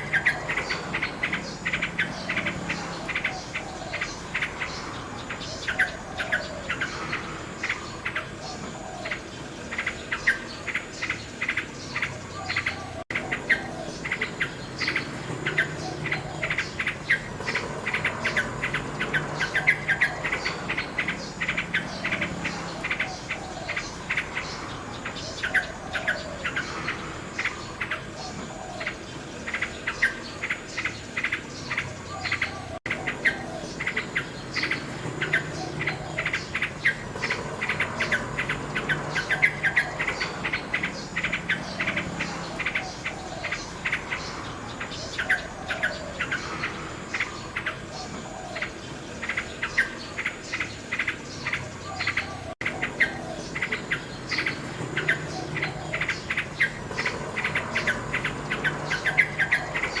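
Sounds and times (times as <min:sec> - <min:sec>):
nightingale singing: 0:00.0 - 1:00.0.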